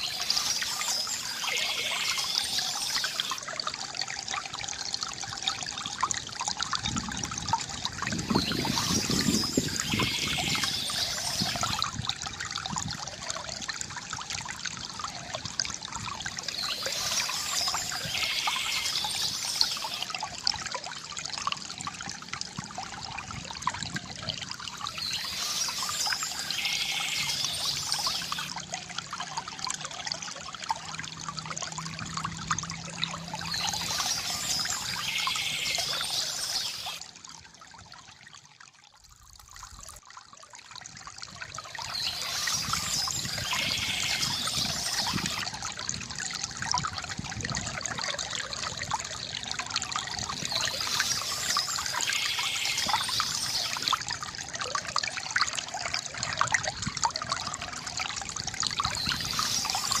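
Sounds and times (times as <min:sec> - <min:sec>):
water pouring into a basin: 0:00.0 - 1:00.0.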